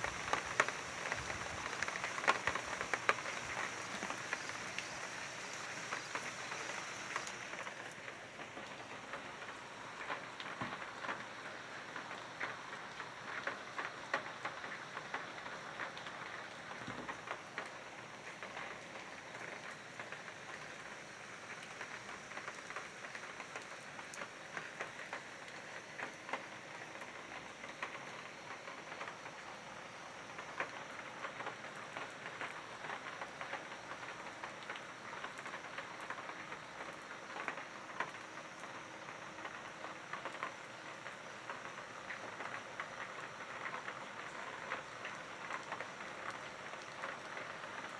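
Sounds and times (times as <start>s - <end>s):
raindrops ticking: 0.0s - 47.9s
steady rain hiss: 0.0s - 47.9s.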